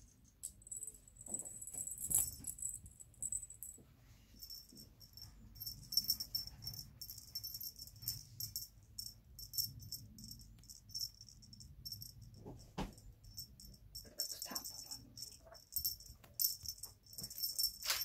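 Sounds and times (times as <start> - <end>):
cat toy jingling rattle: 0.4 - 3.8, 4.4 - 12.4, 13.2 - 18.0.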